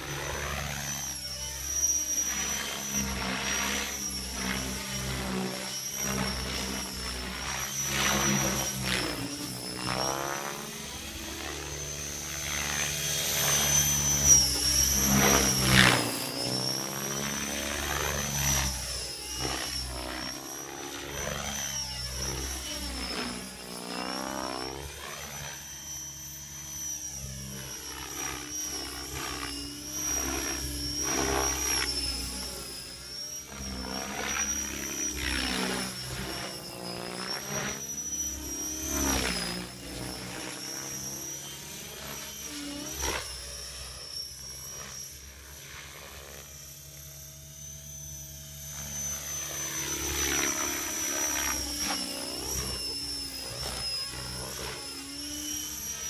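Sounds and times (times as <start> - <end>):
rc helicopter motor whine: 0.0 - 56.0.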